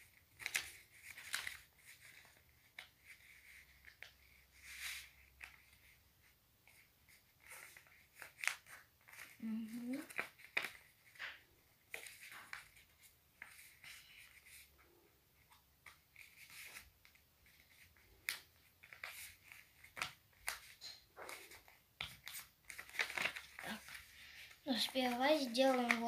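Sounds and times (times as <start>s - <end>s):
paper rustling and crackling: 0.0s - 6.0s, 6.6s - 14.8s, 15.4s - 26.0s.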